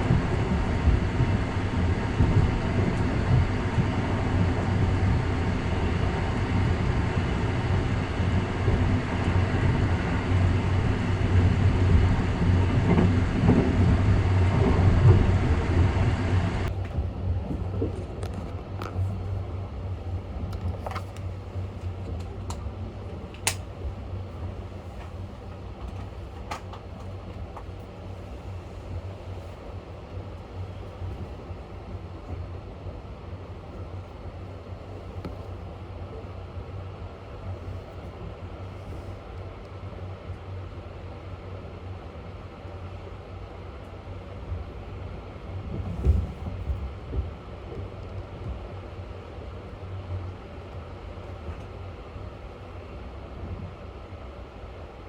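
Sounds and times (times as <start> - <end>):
electric train rumble: 0.0 - 55.0.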